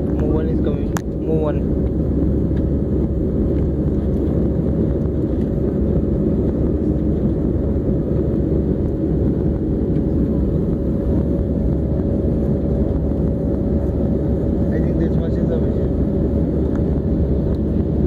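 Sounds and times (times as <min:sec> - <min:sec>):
jet cabin engine roar: 0:00.0 - 0:18.0.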